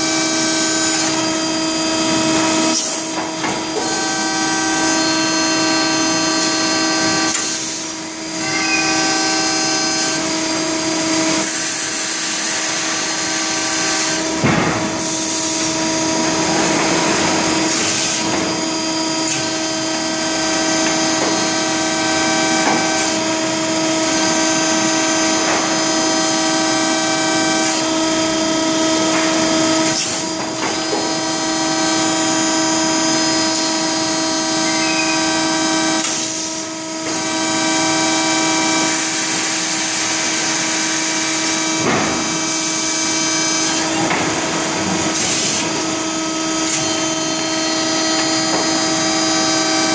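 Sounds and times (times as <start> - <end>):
hydraulic pump whine: 0.0 - 49.9.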